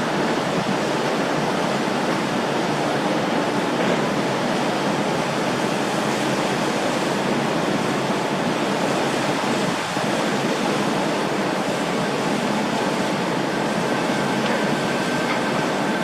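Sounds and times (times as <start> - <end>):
rushing water and wind: 0.0 - 16.0.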